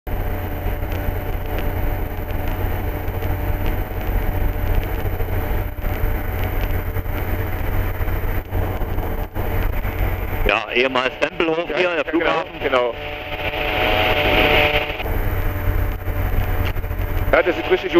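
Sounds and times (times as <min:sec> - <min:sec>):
aircraft engine and propeller drone: 0:00.1 - 0:17.9.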